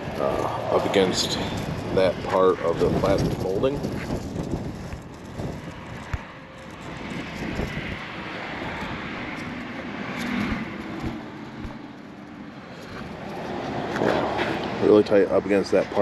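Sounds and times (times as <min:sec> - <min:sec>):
vehicle passing by: 0:00.0 - 0:16.0.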